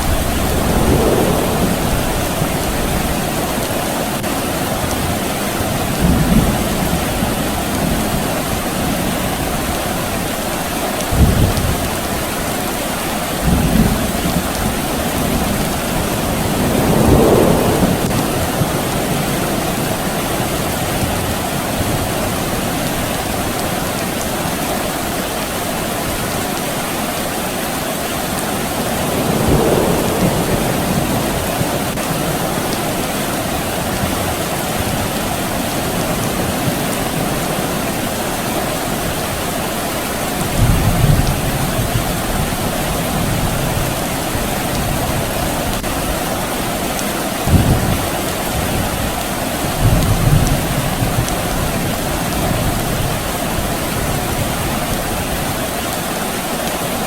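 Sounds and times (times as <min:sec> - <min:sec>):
distant thunder rumbling: 0:00.0 - 0:09.8, 0:13.4 - 0:22.6, 0:28.4 - 0:55.2
soft rain: 0:00.0 - 0:57.0.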